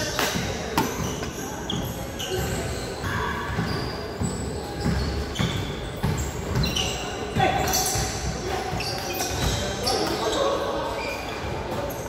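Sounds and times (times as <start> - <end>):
shoes squeaking on court: 0.0 - 12.0.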